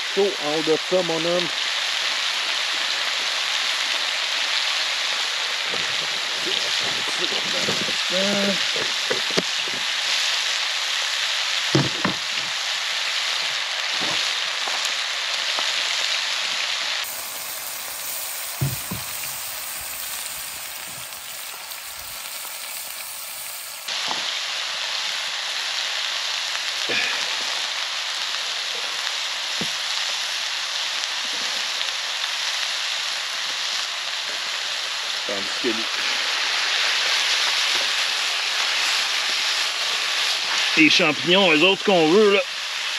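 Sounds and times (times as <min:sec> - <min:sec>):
mushrooms sizzling in a pan: 0:00.0 - 0:42.9.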